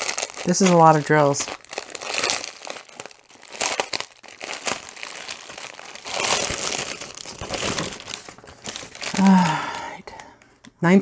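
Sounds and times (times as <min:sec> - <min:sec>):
plastic wrap crinkling: 0:00.0 - 0:10.7.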